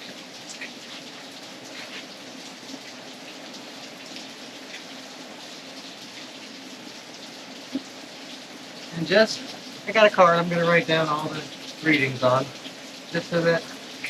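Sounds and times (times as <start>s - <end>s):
rain drops falling: 0.0s - 14.0s.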